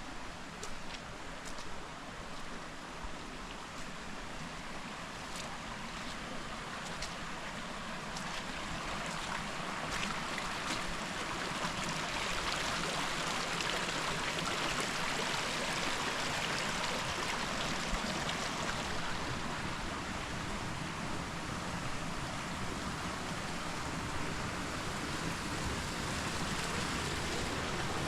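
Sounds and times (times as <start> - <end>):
creek water flowing over rocks: 0.0 - 28.0.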